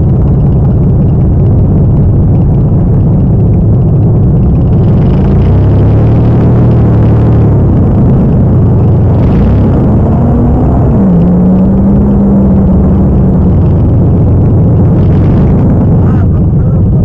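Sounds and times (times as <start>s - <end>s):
truck engine running loud: 0.0s - 17.0s.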